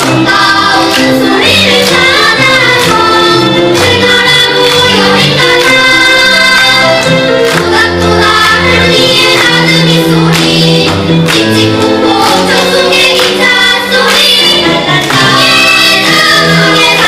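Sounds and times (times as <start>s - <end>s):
children singing: 0.0s - 17.0s
instrumental accompaniment: 0.0s - 17.0s.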